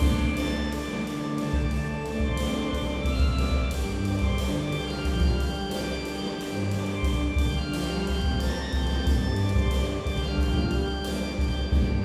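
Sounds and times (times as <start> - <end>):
light percussion beat: 0.0 - 12.0
pulsing low pedal bass: 0.0 - 12.0.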